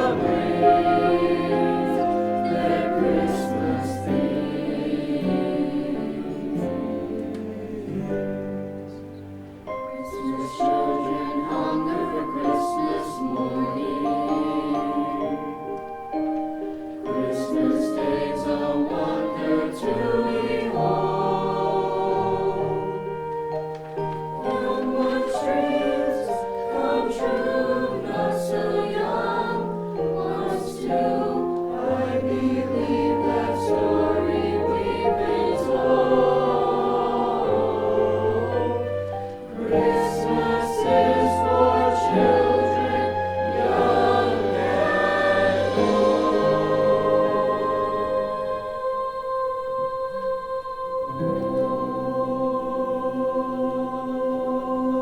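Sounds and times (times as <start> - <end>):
choir singing in parts: 0.0 - 55.0.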